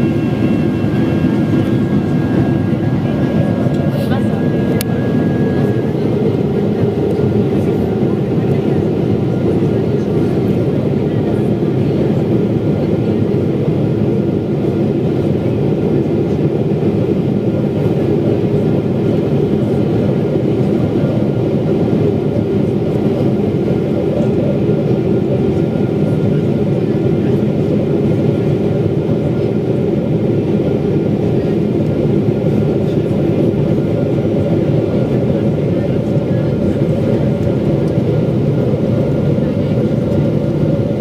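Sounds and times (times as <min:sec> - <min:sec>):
jet engine cabin noise: 0:00.0 - 0:41.0.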